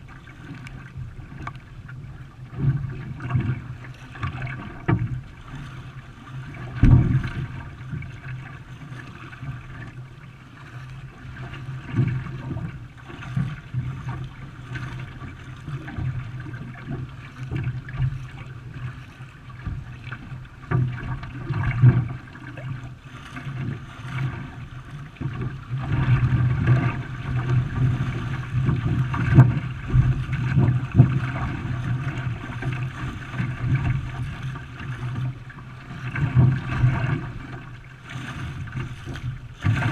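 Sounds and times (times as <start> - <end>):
water splashing around canoe: 0.0 - 39.9
paddle knocks: 0.4 - 10.0, 11.4 - 39.9.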